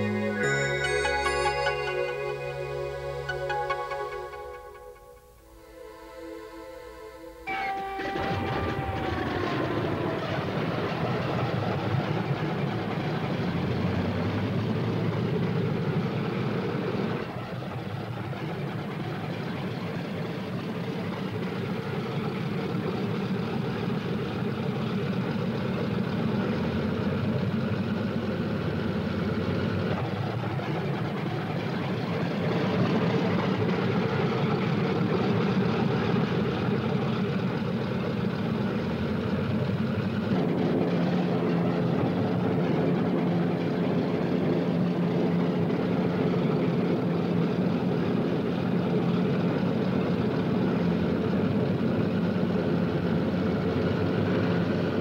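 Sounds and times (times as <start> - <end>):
piston aircraft engines droning: 0.0 - 55.0.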